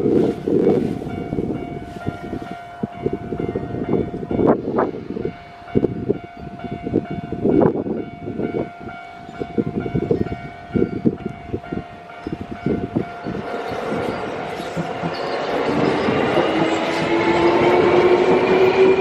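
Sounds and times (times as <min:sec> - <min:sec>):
crossing warning bell ringing: 0:00.0 - 0:19.0.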